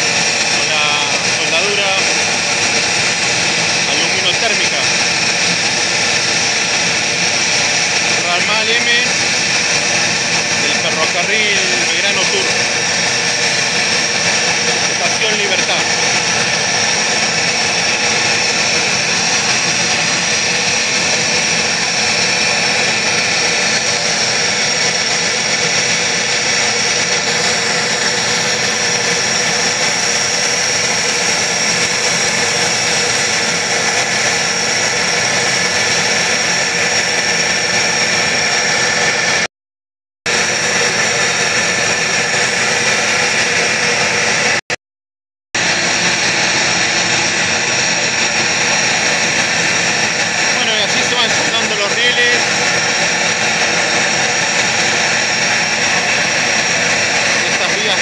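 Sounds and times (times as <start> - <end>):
gas burner rushing: 0.0 - 39.5, 40.3 - 44.7, 45.6 - 58.0.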